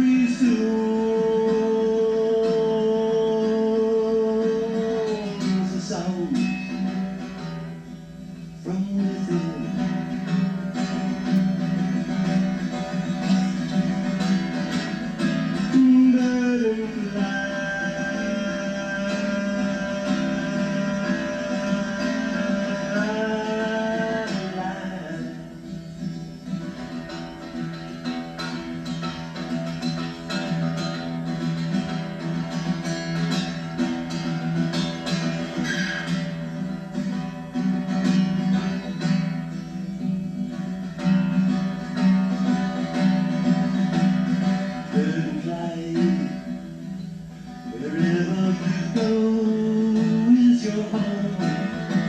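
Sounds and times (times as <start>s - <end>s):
guitar strumming: 0.0s - 52.0s.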